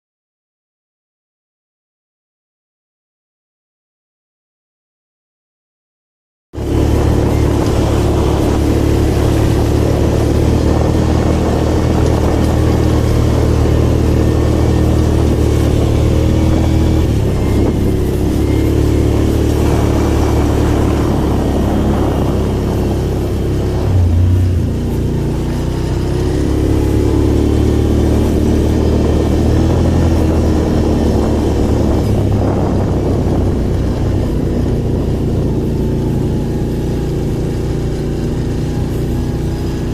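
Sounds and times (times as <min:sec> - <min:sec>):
atv engine revving under load: 0:06.6 - 0:39.9.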